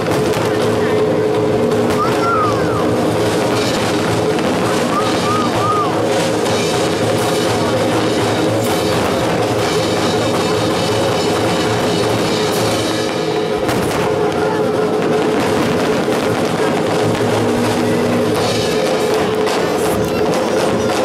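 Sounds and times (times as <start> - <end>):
firework bangs: 0.0 - 21.0
loud rock music: 0.0 - 21.0.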